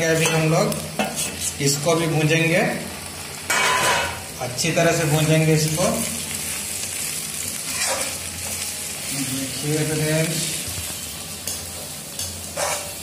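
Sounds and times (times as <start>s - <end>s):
garlic and onions sizzling in oil: 0.0s - 13.0s.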